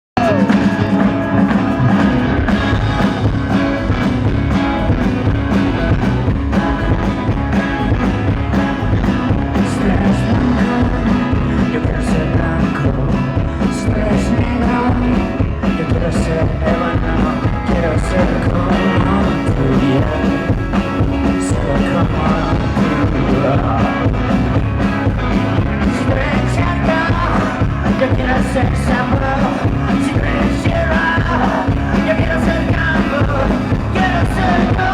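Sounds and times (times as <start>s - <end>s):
rock band playing live: 0.2s - 34.9s
steady drumbeat: 0.2s - 34.9s.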